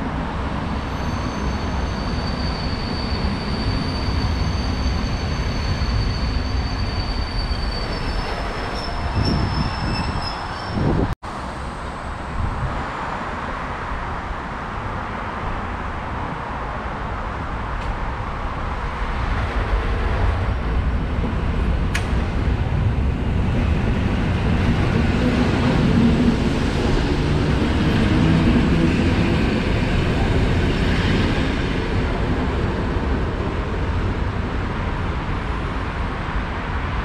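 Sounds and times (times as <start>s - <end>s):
electric train rumbling past: 0.0s - 37.0s.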